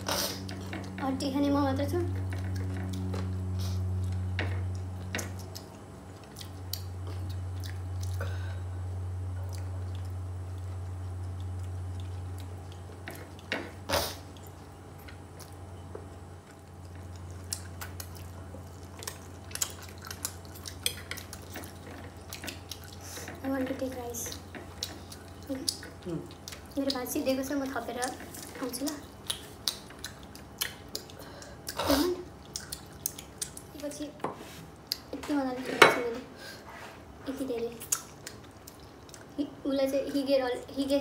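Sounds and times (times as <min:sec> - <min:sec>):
chewing: 0:00.0 - 0:01.0, 0:02.1 - 0:08.3, 0:09.3 - 0:34.0, 0:37.8 - 0:39.5
steady low hum: 0:00.0 - 0:41.0.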